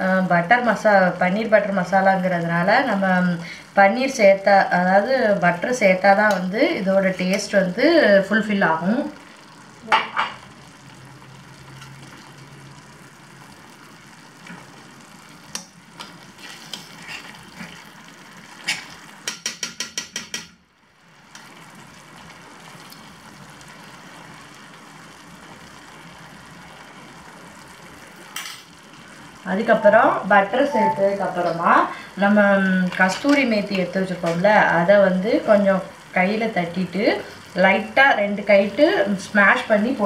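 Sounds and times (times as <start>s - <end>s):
gravy sizzling in a pan: 0.0s - 40.0s.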